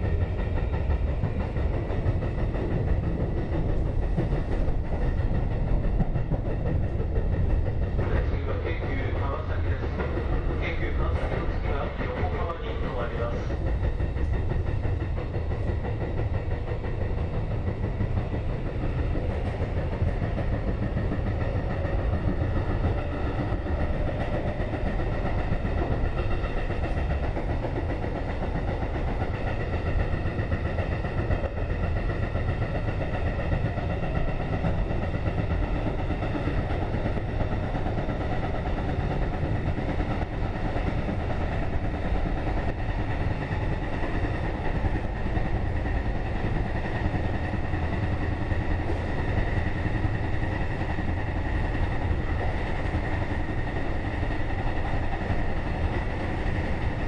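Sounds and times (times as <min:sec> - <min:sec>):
steady whining tones: 0:00.0 - 0:57.0
train wheels rumbling on rail: 0:00.0 - 0:57.0.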